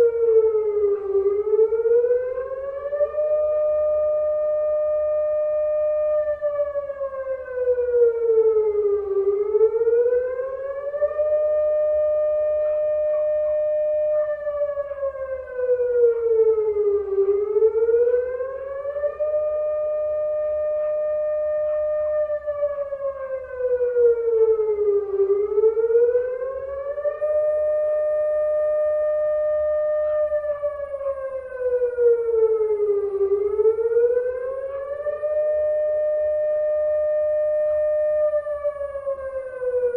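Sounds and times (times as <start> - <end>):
air-raid siren wailing: 0.0 - 39.9.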